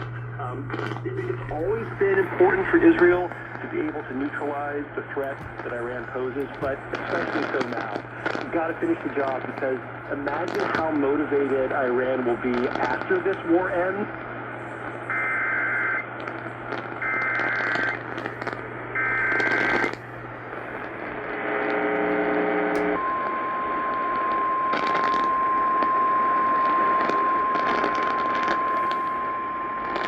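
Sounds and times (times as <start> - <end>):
radio hiss and crackle: 0.0 - 30.0.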